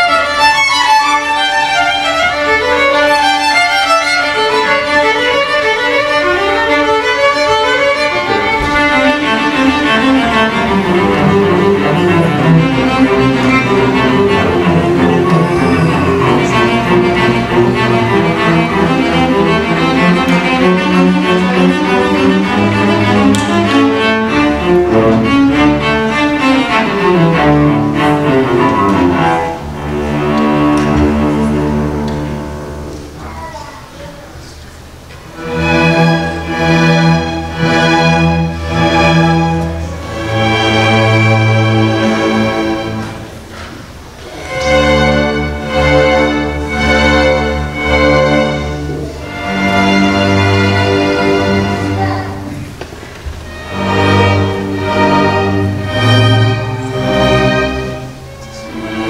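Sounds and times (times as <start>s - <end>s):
violins playing: 0.0s - 33.2s, 34.8s - 59.0s
cellos and basses playing: 0.0s - 33.7s, 34.8s - 59.0s.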